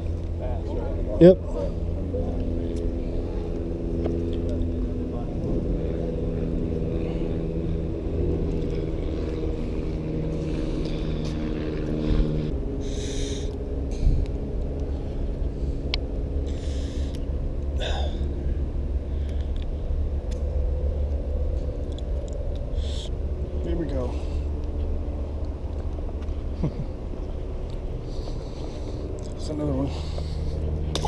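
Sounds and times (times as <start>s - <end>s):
low engine hum: 0.0s - 31.0s.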